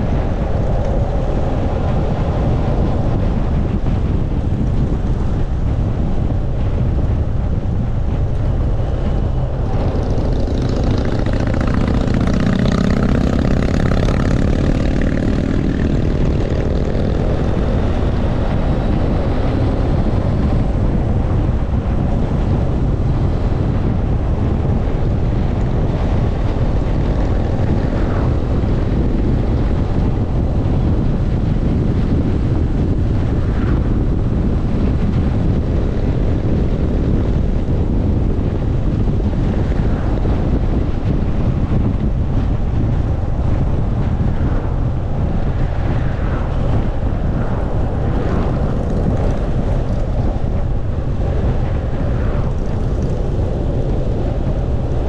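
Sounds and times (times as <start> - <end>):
motorcycle engine and road rumble: 0.0 - 55.0
wind noise on microphone: 0.0 - 55.0.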